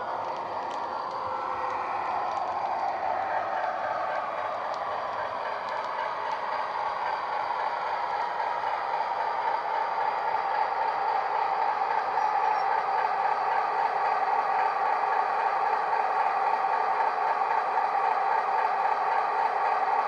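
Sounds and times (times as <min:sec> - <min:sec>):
model locomotive diesel engine drone: 0:00.0 - 0:20.0.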